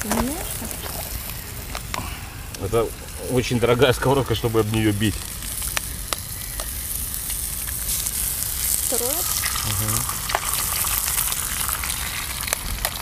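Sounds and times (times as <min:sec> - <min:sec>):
sausages and egg sizzling: 0:00.0 - 0:13.0.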